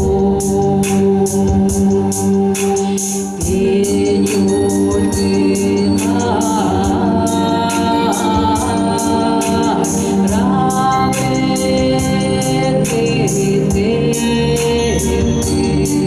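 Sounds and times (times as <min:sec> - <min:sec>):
organ-like synthesizer: 0:00.0 - 0:16.0
person singing: 0:00.0 - 0:16.0.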